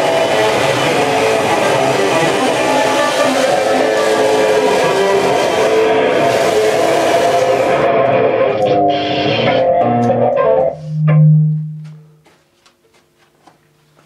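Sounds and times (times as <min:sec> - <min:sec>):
effects-processed cello noise music: 0:00.0 - 0:12.2.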